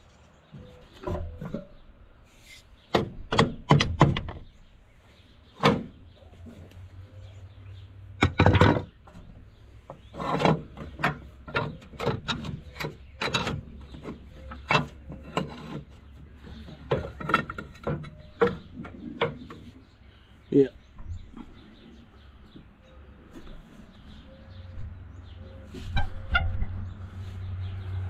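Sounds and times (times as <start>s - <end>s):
metal knocks clanks and scrapes: 0.0s - 4.5s, 5.5s - 6.8s, 8.1s - 20.0s, 20.8s - 28.0s.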